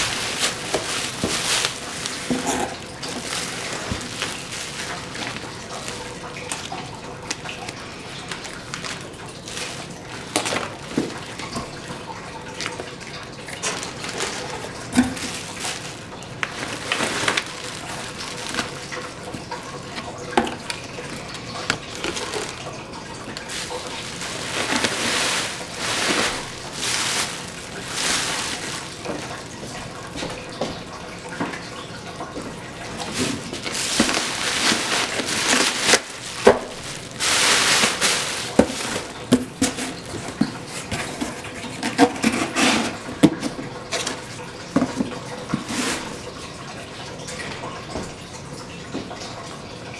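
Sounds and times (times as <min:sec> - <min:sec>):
foil liner rustling and crinkling: 0:00.0 - 0:30.9, 0:32.3 - 0:46.3.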